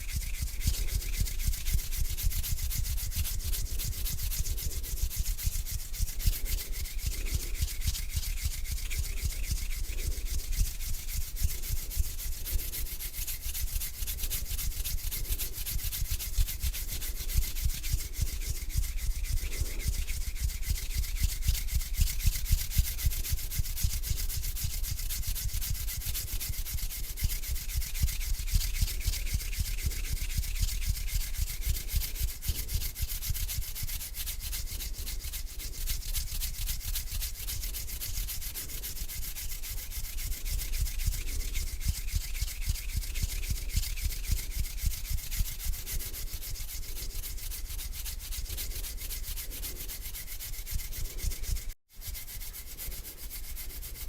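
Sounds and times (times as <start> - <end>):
hands rubbing together: 0.0 - 54.0.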